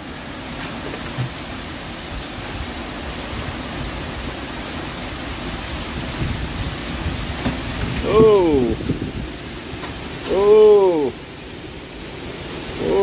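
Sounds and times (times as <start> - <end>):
heavy rain pouring: 0.0 - 13.0
strong wind gusts: 0.0 - 13.0.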